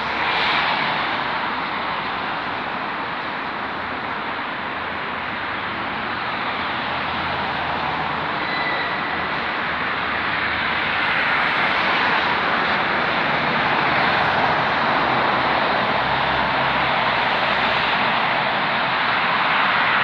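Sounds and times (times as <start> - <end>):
expressway traffic: 0.0 - 20.0.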